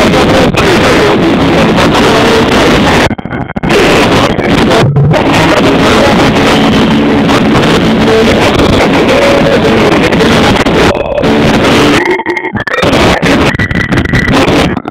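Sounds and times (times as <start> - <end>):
heavy rumbling noise: 0.0 - 14.9
loud distorted music: 0.0 - 14.9.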